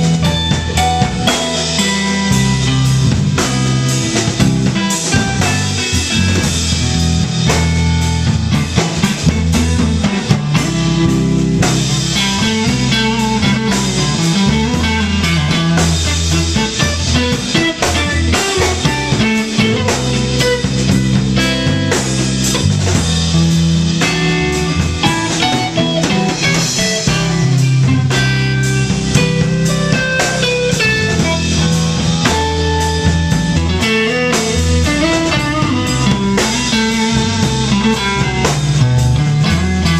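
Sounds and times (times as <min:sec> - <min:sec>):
drum kit beat: 0:00.0 - 0:39.9
electric bass line: 0:00.0 - 0:39.9
electric guitar: 0:00.0 - 0:39.9.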